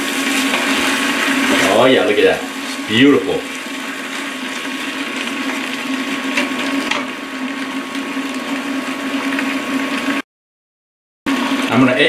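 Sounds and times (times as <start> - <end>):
cooling fan hum: 0.0 - 10.2, 11.3 - 12.0.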